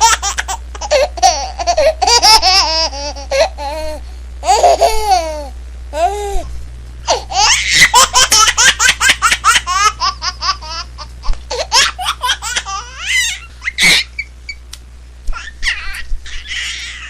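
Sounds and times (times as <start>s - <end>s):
baby laughing: 0.0s - 6.2s, 7.1s - 14.3s, 15.3s - 17.0s.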